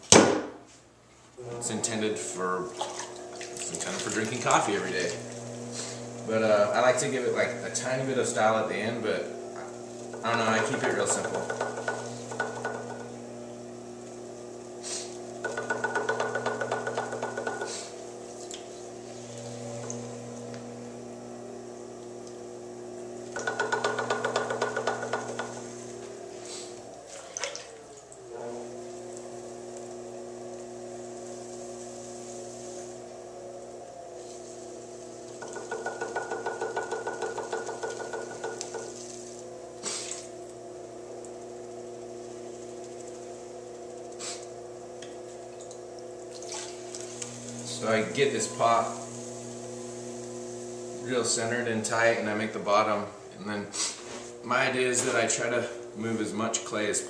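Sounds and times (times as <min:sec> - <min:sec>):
potter's wheel motor humming: 0:01.4 - 0:57.0.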